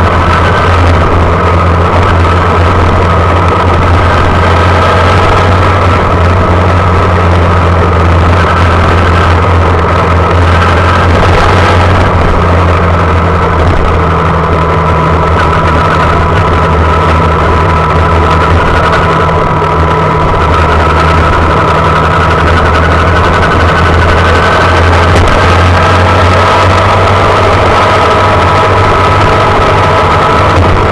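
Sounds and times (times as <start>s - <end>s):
small motorcycle engine running: 0.0s - 30.9s.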